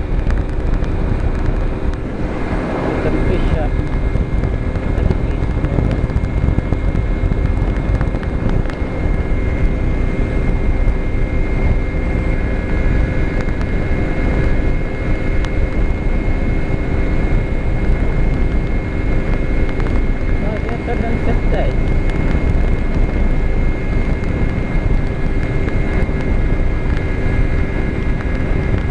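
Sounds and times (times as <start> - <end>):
motorcycle engine droning: 0.0 - 28.9
wind rumble on microphone: 0.0 - 28.9.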